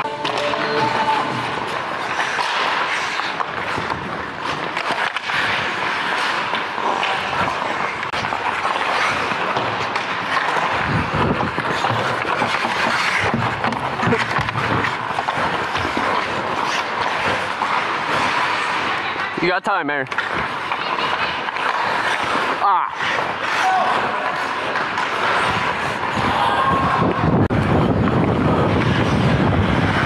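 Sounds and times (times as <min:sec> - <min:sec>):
hockey sticks and puck clacking: 0:00.0 - 0:30.0
skates scraping on ice: 0:00.0 - 0:30.0.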